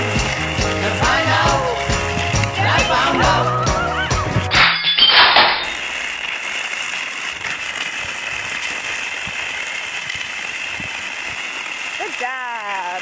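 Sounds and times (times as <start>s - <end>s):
skis gliding over snow: 0.0s - 4.5s, 5.6s - 13.0s.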